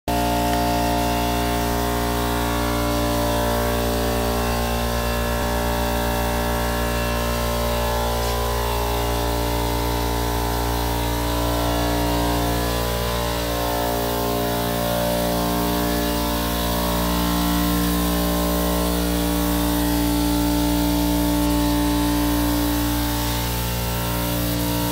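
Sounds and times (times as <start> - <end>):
air compressor motor humming: 0.1 - 24.9.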